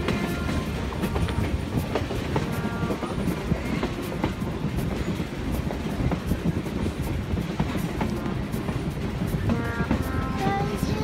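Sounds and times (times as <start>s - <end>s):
train car rumbling on track: 0.0s - 11.0s
wheels clicking over rail joints: 0.0s - 11.0s.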